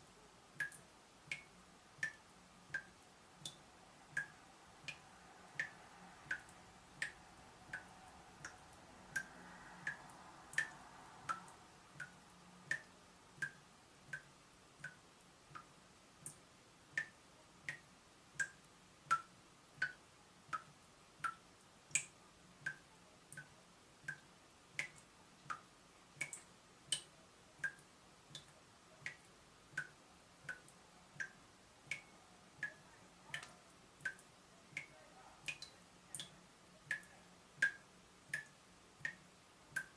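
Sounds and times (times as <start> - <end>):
water dripping from tap: 0.6 - 39.9.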